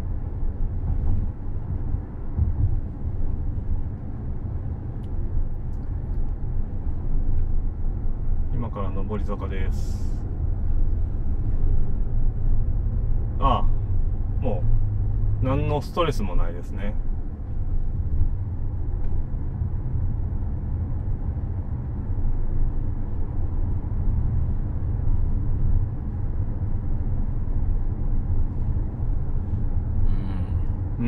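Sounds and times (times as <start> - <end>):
car cabin road rumble: 0.0 - 31.0.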